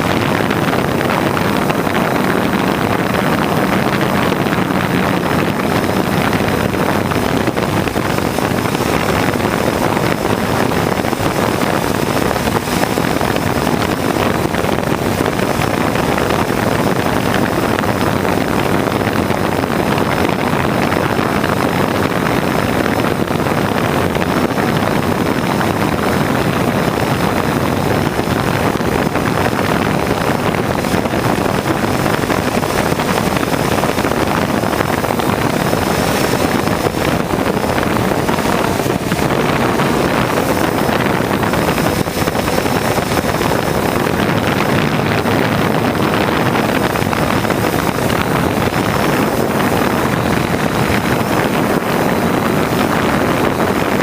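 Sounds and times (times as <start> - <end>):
small aircraft propeller and motor: 0.0 - 54.0
wind on microphone: 0.0 - 54.0.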